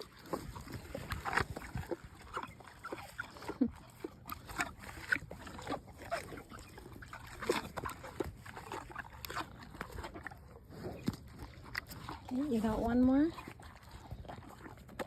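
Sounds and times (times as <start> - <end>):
cow chewing wetly: 0.0 - 15.0.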